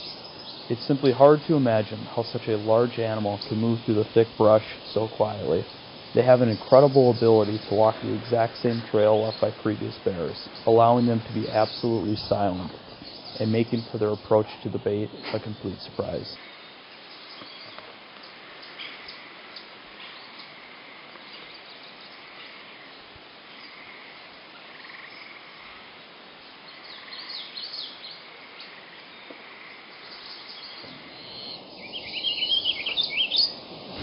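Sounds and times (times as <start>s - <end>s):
birds chirping: 0.0s - 34.0s
outdoor background hiss: 0.0s - 34.0s.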